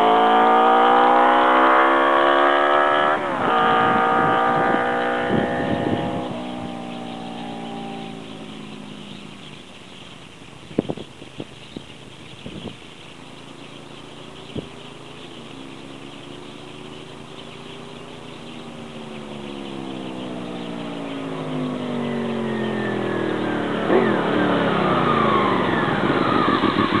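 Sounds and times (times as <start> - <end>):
motorcycle engine approaching: 0.0 - 27.0.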